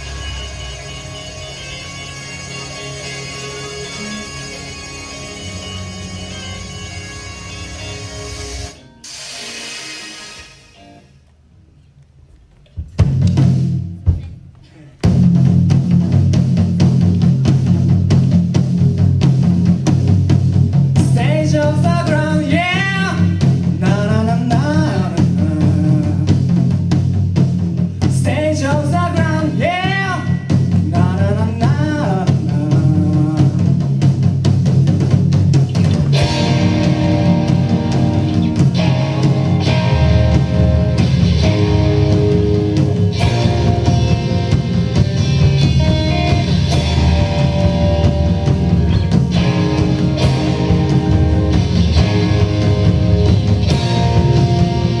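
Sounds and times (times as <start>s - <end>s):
live rock band playing: 0.0s - 11.2s, 12.9s - 14.4s, 15.0s - 55.0s.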